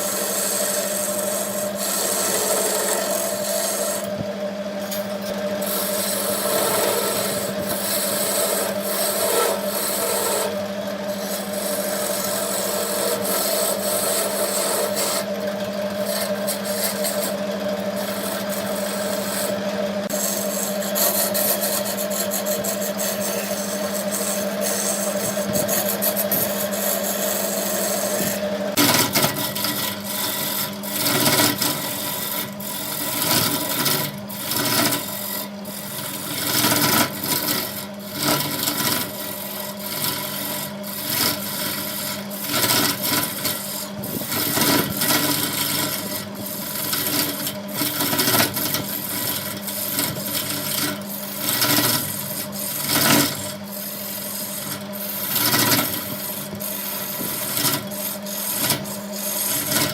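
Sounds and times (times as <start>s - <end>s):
tool scraping spinning wood: 0.0s - 59.9s
wood lathe motor hum: 0.0s - 59.9s.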